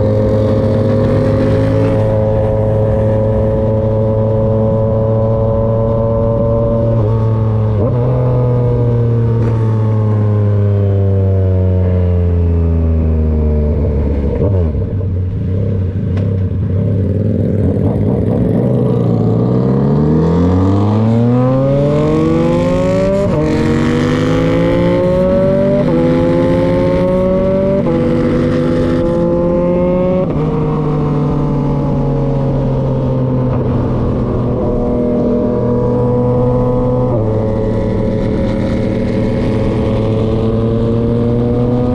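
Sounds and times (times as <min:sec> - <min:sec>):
motorcycle engine revving: 0:00.0 - 0:11.6, 0:12.4 - 0:41.9.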